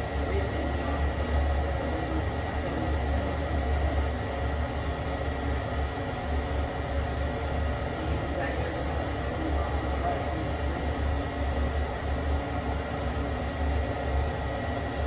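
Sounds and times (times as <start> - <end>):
gas water heater humming: 0.0 - 15.0.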